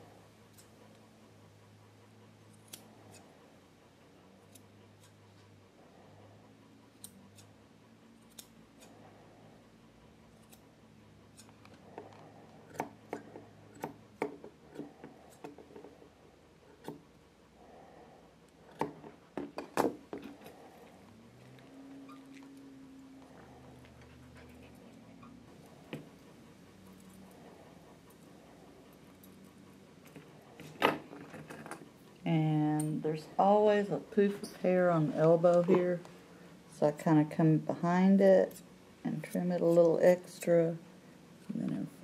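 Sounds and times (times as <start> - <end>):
grooming shears snipping hair: 0.0 - 1.4, 2.2 - 5.7, 6.3 - 17.2, 18.5 - 40.8.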